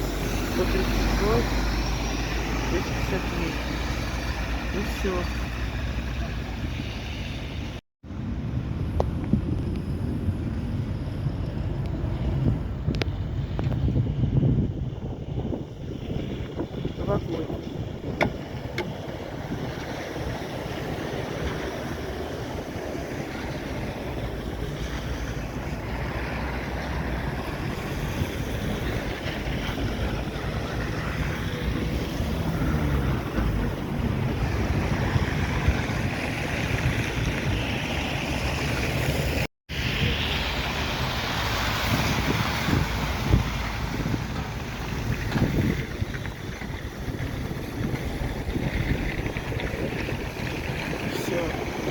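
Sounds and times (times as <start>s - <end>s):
passing vehicle engine hum: 0.0s - 51.9s
street traffic: 0.0s - 51.9s
wind buffeting microphone: 0.0s - 51.9s.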